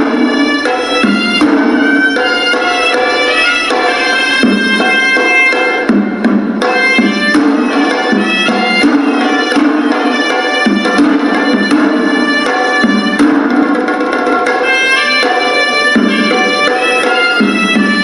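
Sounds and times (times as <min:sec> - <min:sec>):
shrill double-reed pipe melody: 0:00.0 - 0:13.2, 0:14.6 - 0:18.0
drum strokes: 0:00.0 - 0:18.0.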